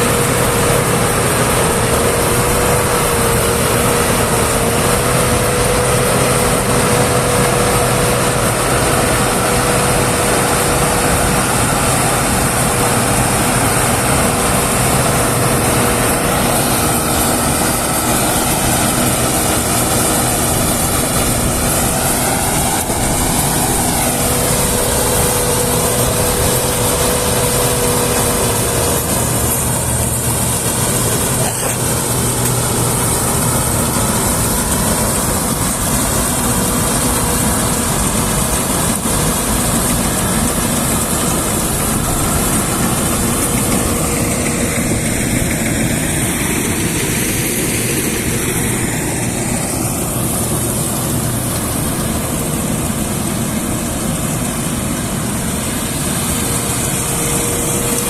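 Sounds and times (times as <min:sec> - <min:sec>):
heavy engine running under load: 0:00.0 - 0:58.0.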